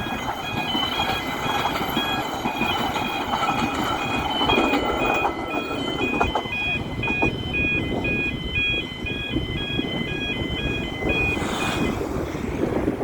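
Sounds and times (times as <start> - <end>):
two-tone crossing alarm: 0.0 - 12.2.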